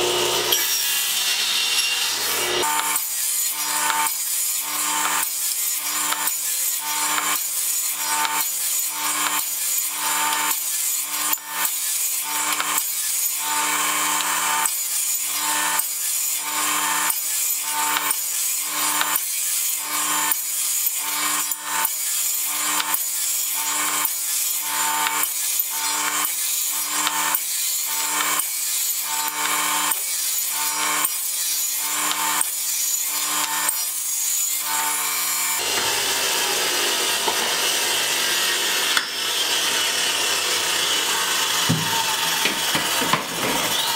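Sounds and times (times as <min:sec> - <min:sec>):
table saw cutting wood: 0:00.0 - 0:43.9.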